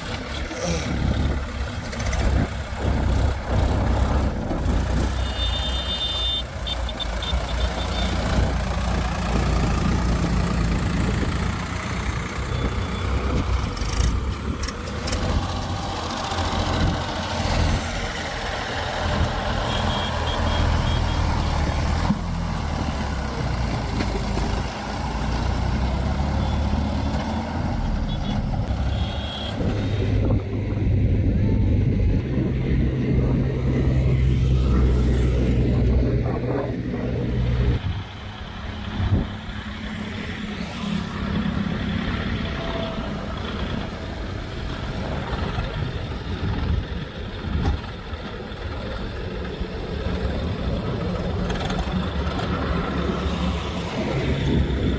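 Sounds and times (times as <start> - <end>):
diesel engine drone: 0.0 - 54.9.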